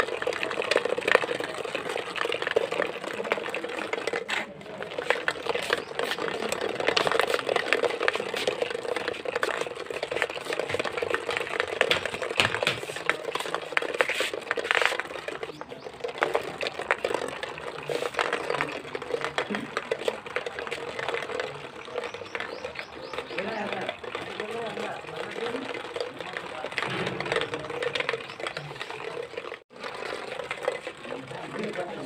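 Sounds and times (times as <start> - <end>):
irregular clicks and rattles: 0.0 - 32.0.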